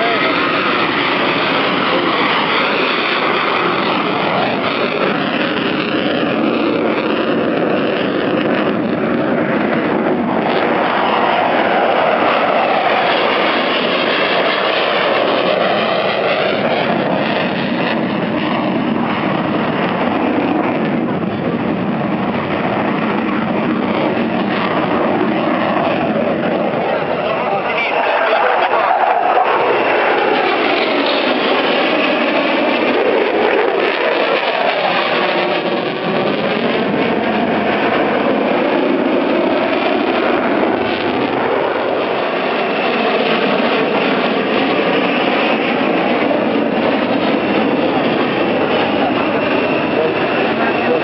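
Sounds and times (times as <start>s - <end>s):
military jet taking off: 0.0s - 51.0s.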